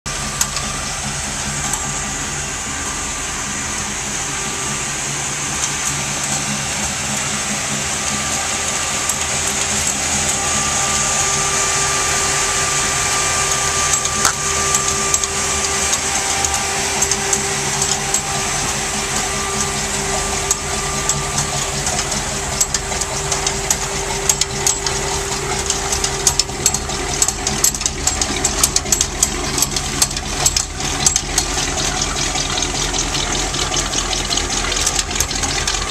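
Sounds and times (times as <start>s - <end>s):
truck engine idling: 0.1s - 35.9s.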